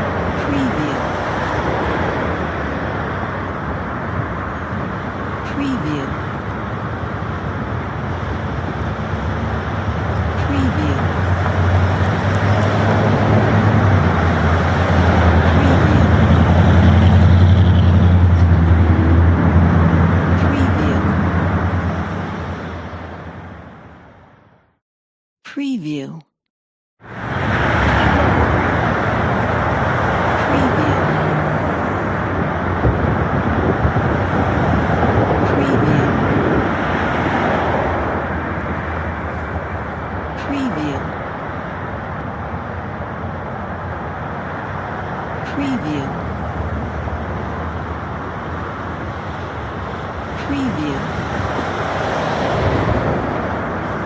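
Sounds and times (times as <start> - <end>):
road traffic: 0.0 - 24.8, 27.0 - 54.0.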